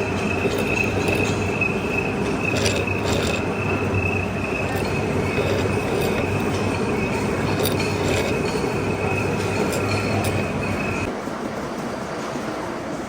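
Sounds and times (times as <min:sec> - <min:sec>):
machine tool squealing cutting metal: 0:00.0 - 0:11.1
mechanical rumble: 0:00.0 - 0:11.1.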